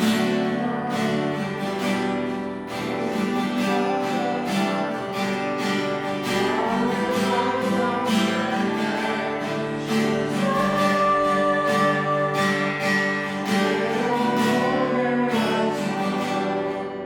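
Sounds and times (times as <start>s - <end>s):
acoustic guitar strummed: 0.0s - 17.0s
person singing: 0.0s - 17.0s.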